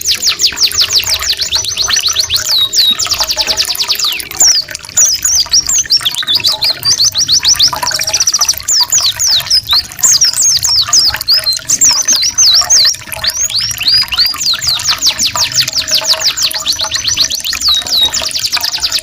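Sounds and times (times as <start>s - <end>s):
songbird trilling: 0.0s - 19.0s.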